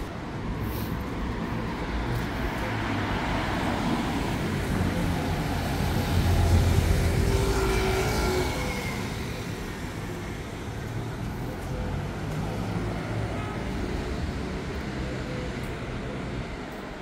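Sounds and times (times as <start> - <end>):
street traffic: 0.0 - 17.0
scooter passing: 1.6 - 15.5.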